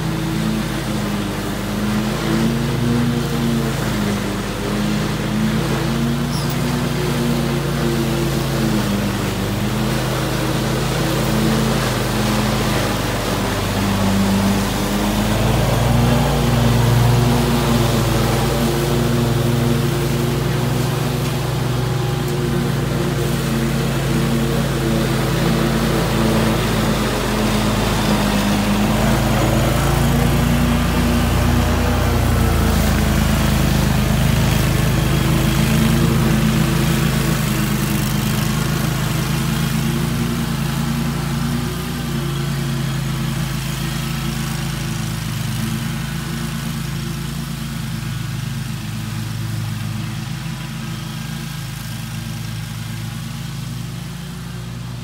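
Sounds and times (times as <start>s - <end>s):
mower cutting grass: 0.0s - 55.0s.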